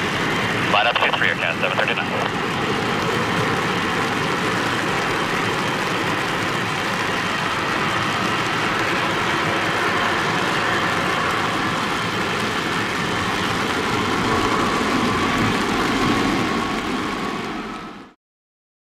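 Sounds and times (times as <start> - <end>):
jet engines hissing and whining: 0.0 - 18.2.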